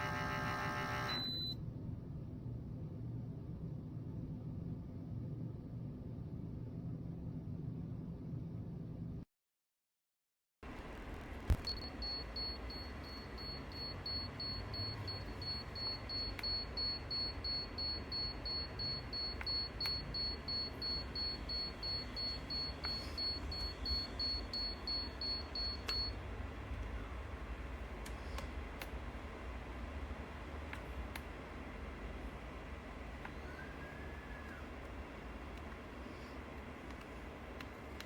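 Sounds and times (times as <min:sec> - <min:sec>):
espresso machine low hum: 0:00.0 - 0:09.2, 0:10.7 - 0:38.0.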